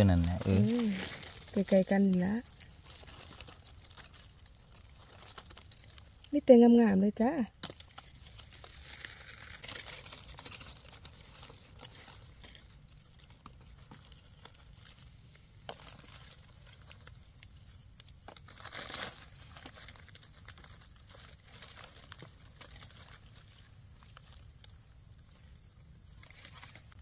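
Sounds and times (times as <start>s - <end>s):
dry leaves rustling and crackling: 0.0s - 27.0s
twigs snapping: 0.2s - 6.3s, 7.5s - 27.0s.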